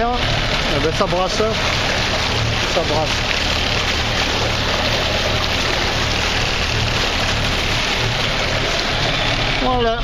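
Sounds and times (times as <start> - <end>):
boat engine hum: 0.0 - 10.0
propeller churning water: 0.0 - 10.0.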